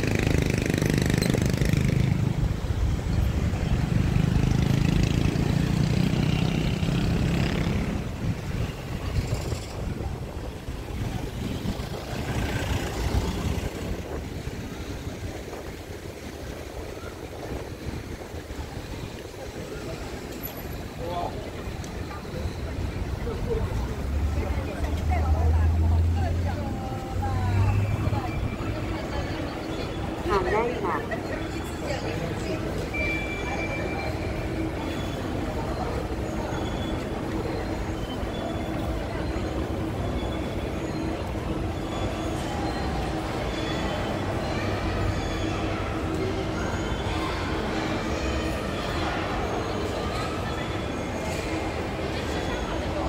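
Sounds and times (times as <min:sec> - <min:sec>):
escalator and machinery hum: 0:00.0 - 0:53.0
low rumble of street traffic: 0:00.0 - 0:53.0.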